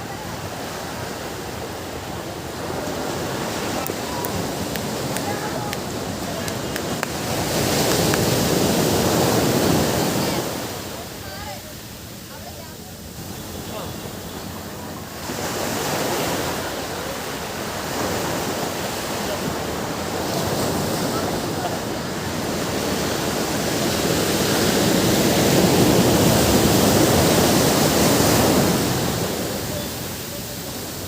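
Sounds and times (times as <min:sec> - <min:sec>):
waves washing on beach: 0:00.0 - 0:31.0.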